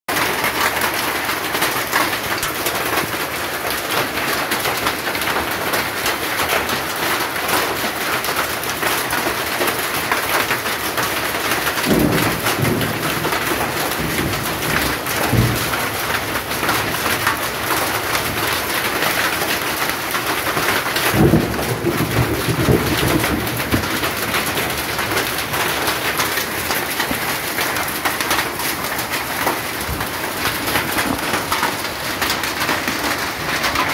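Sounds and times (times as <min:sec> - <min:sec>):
heavy rain and hail: 0:00.1 - 0:33.9.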